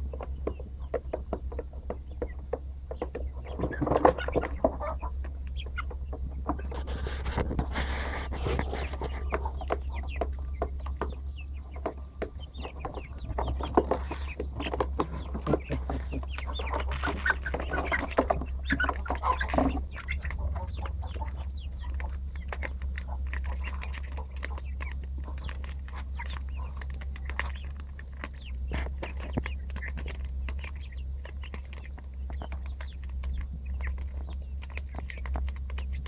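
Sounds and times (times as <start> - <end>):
chickens clucking: 0.0 - 36.0
steady low hum: 0.0 - 36.0.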